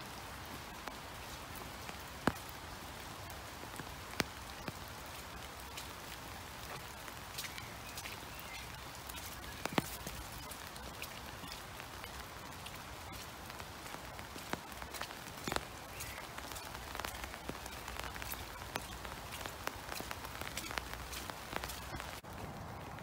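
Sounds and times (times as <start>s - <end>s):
rain on leaves and ground: 0.0s - 23.0s.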